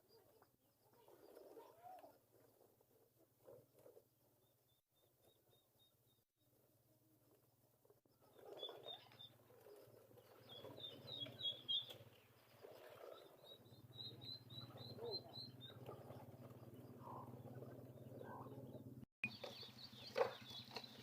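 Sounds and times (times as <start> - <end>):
bird chirping: 0.0 - 6.7, 8.1 - 21.0.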